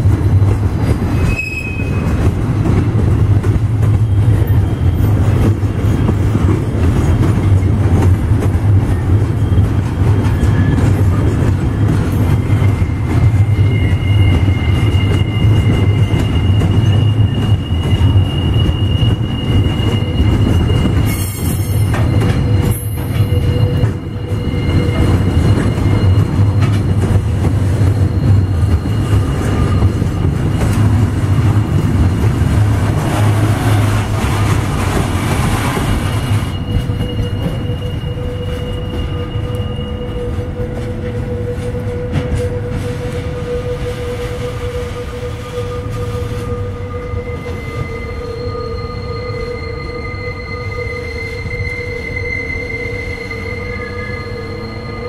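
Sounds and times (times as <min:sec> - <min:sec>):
train wheels rumbling on rail: 0:00.0 - 0:55.0
high wheel squeal: 0:00.2 - 0:02.3, 0:03.4 - 0:55.0.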